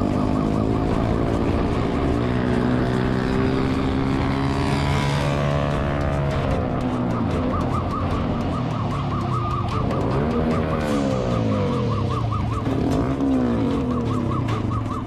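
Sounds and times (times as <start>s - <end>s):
motorcycle engine revving: 0.0s - 15.0s
police siren yelping: 0.0s - 15.0s.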